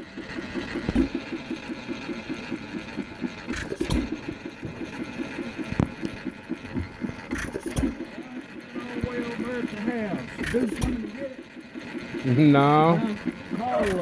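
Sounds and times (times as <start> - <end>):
hit-and-miss engine clattering: 0.0 - 14.0.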